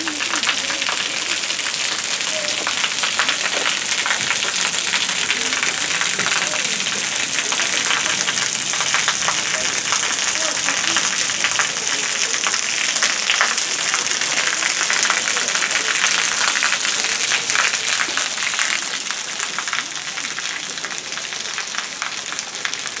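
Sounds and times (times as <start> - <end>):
water splashing onto stone: 0.0 - 23.0.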